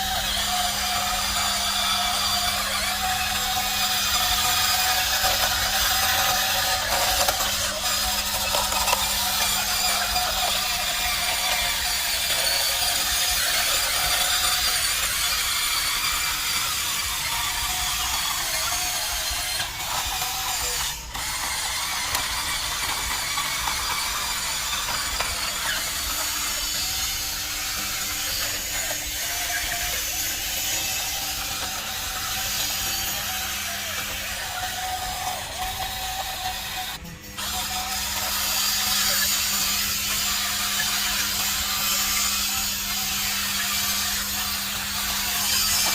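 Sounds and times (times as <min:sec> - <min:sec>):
toy motors whirring and clicking: 0:00.0 - 0:45.9.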